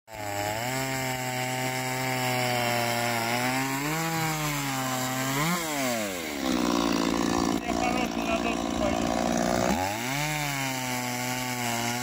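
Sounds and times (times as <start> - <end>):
small engine running and revving: 0.1 - 12.0.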